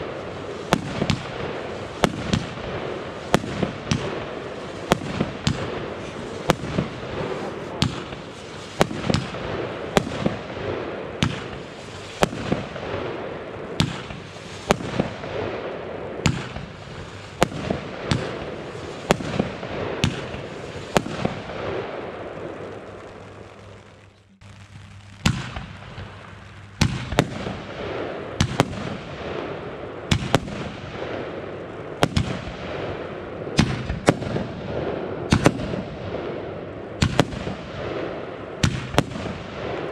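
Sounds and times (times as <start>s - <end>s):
fireworks banging: 0.0s - 31.4s, 32.0s - 39.9s
fireworks crackling: 0.0s - 39.9s.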